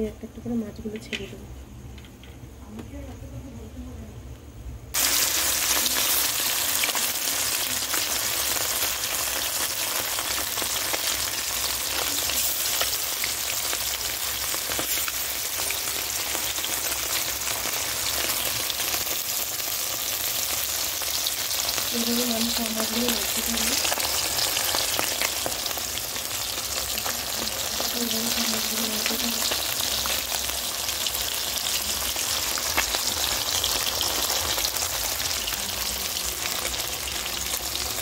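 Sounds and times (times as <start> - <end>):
fish sizzling in hot oil: 4.9 - 38.0.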